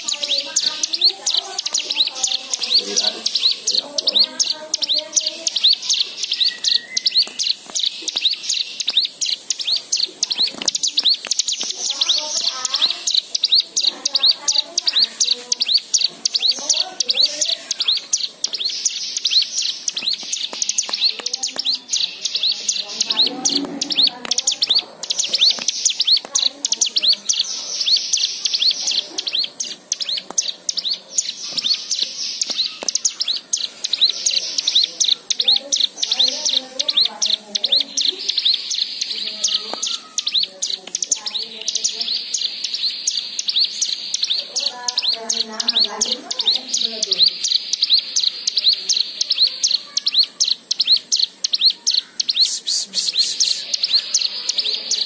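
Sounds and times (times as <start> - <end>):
bird chirping rapidly: 0.0 - 55.0.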